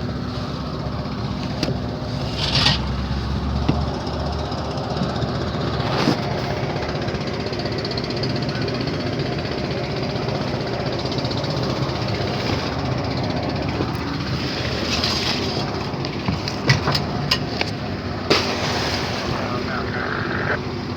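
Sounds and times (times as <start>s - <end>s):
ship engine running: 0.0s - 20.9s.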